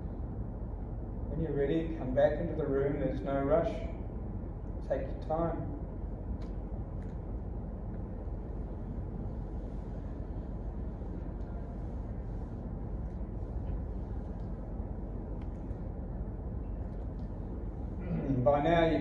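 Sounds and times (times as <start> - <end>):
low rumble and hiss: 0.0 - 19.0.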